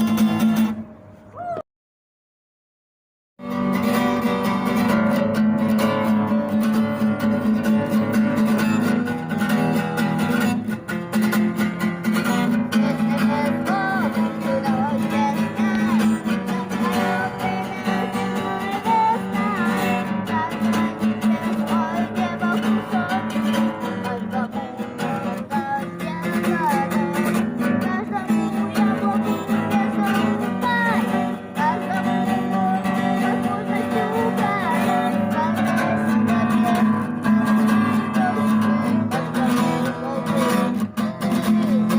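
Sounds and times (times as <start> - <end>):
acoustic guitar strumming: 0.0 - 1.2, 3.4 - 41.9.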